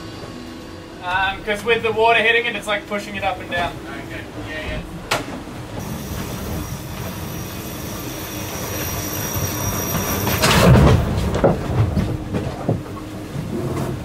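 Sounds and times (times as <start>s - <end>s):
faint high whine: 0.0s - 14.0s
hull moving through water: 0.0s - 14.0s.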